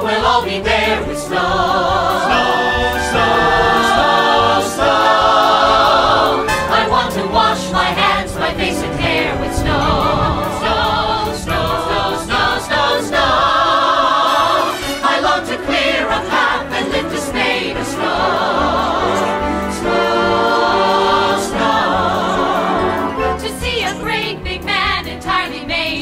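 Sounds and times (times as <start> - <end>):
choir singing: 0.0 - 26.0
orchestral accompaniment: 0.2 - 25.2.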